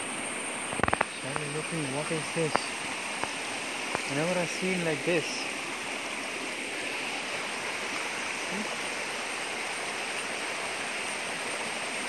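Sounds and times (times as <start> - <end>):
stream flowing over cascades: 0.0 - 12.0.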